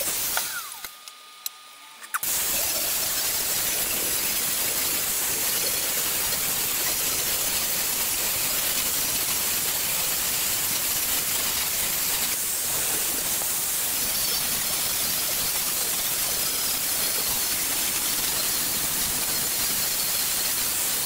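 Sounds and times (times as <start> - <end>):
angle grinder sanding metal: 2.2 - 21.0.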